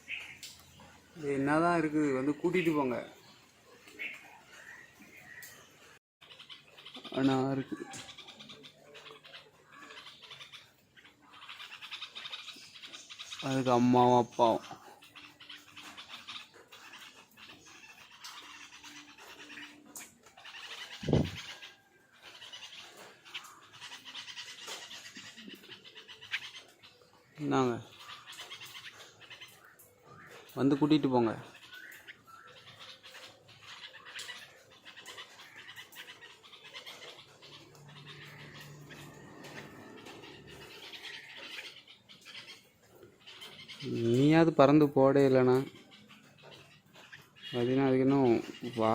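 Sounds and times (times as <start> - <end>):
bird chirps: 0.0 - 48.9.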